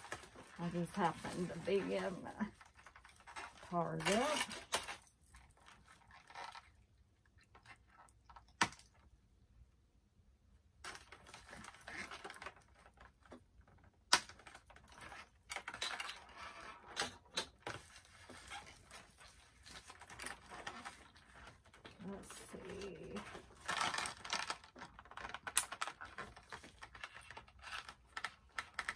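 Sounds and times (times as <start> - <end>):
packaging rustling and crinkling: 0.0 - 8.4, 10.9 - 28.9.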